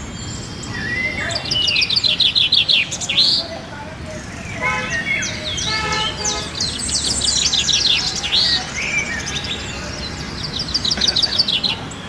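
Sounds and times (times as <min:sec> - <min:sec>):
budgerigars chattering: 0:00.4 - 0:12.0.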